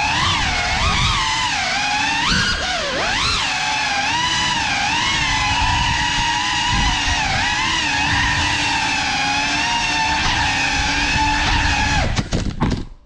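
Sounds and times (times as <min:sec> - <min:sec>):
drone motors whining: 0:00.0 - 0:12.5.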